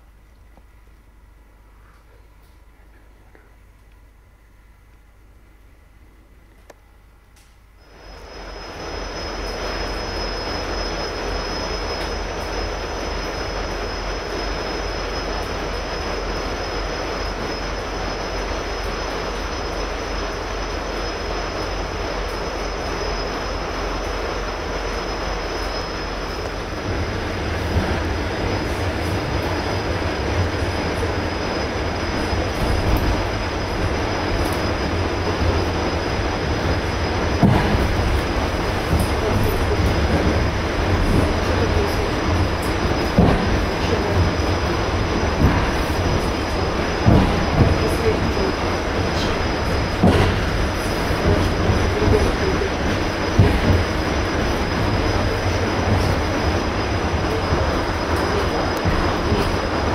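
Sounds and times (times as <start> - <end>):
train wheels rumbling on rail: 7.4 - 59.9
rushing noise: 7.8 - 59.9.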